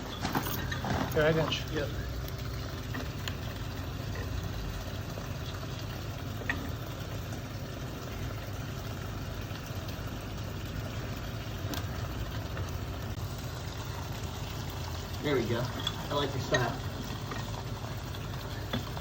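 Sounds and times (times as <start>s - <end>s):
machine rumbling: 0.0s - 19.0s.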